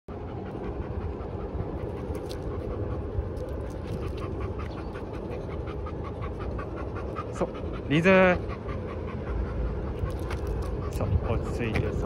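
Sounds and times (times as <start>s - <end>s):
dog panting: 0.1s - 12.0s
steady low rumble: 0.1s - 12.0s.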